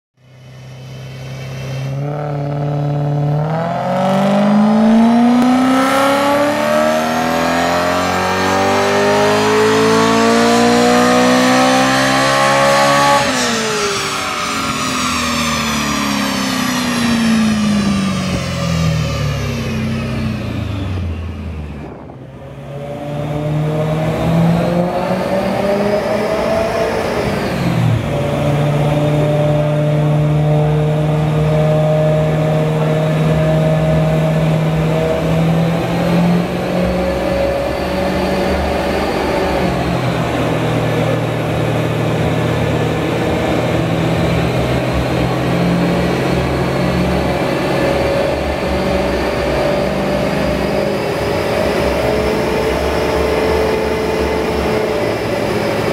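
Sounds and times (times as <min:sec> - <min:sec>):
car engine revving: 0:00.2 - 0:55.9.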